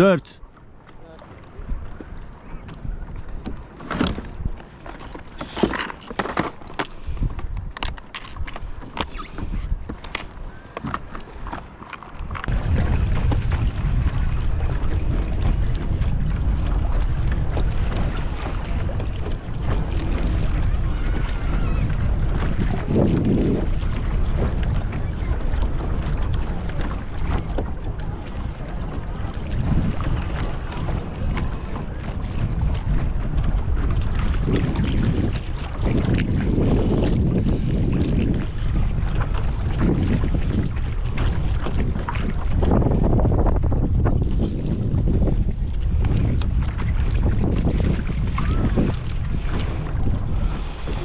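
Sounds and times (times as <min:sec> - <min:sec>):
water and wind noise: 0:00.0 - 0:51.0.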